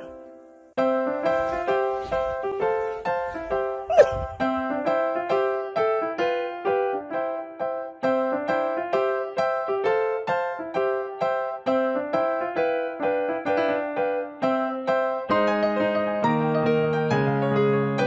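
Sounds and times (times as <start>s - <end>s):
piano tune: 0.0s - 18.0s.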